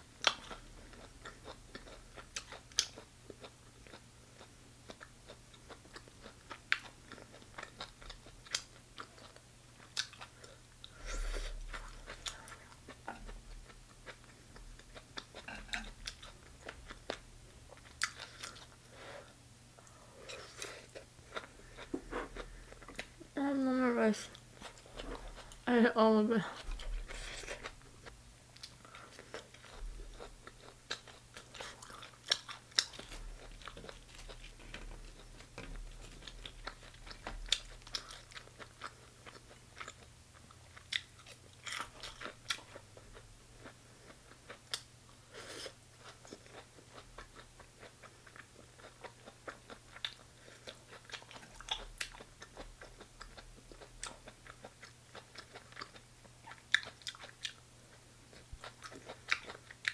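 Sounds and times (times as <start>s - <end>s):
steady low hum: 0.0s - 59.9s
crunchy chewing: 0.2s - 23.2s, 28.6s - 59.9s.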